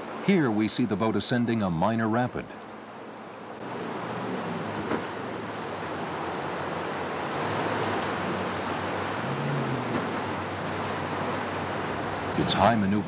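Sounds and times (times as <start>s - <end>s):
boat engines droning: 0.0s - 13.0s
water rushing over rapids: 0.0s - 13.0s.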